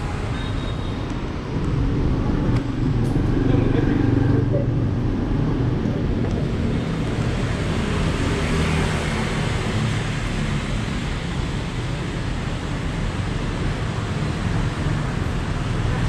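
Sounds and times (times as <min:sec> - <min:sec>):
passing vehicles rumble and hiss: 0:01.0 - 0:16.0.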